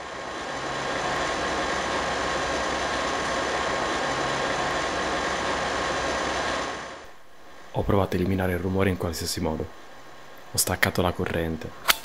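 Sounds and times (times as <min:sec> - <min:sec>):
refrigerator mechanical drone: 0:00.0 - 0:12.0.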